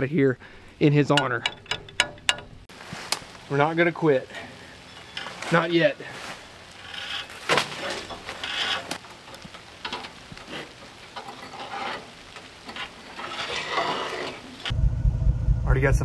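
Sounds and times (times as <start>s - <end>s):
rustling and scraping: 1.4s - 14.7s.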